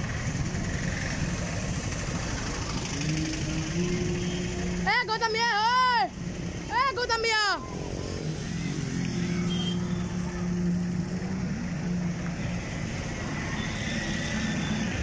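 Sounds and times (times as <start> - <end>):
bus engine running: 0.0 - 15.0
road traffic noise: 0.0 - 15.0.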